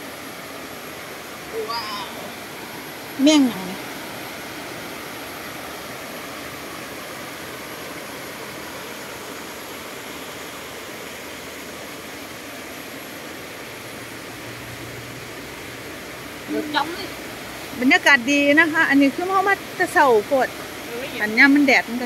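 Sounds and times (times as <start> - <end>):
waterfall rushing over rocks: 0.0 - 22.0.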